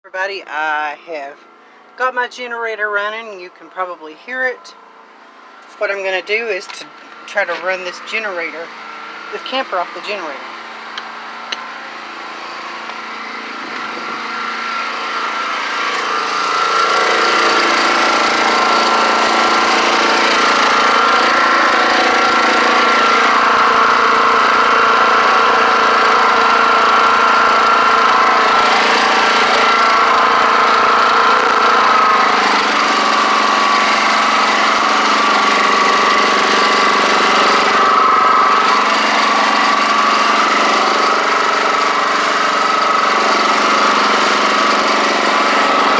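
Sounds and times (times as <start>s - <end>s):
generator engine running: 0.0s - 45.9s.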